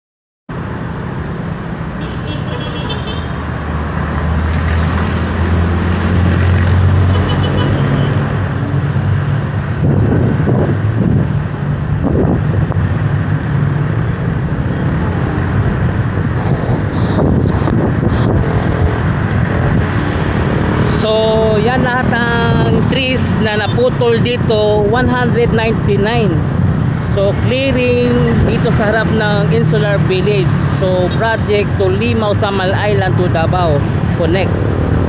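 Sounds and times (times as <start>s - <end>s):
cars passing close: 0.5s - 35.0s.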